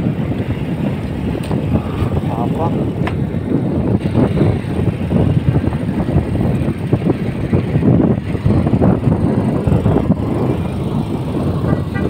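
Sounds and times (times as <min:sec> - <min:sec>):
moving vehicle rumble: 0:00.0 - 0:12.0
wind buffeting microphone: 0:00.0 - 0:12.0.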